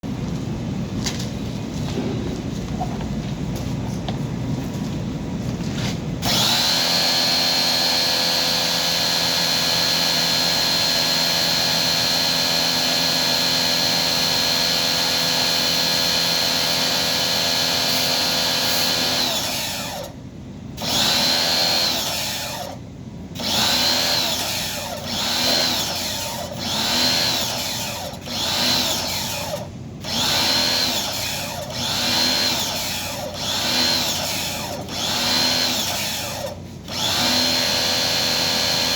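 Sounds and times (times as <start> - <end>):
small electric motor whining: 6.2 - 20.2, 20.8 - 22.8, 23.4 - 38.9.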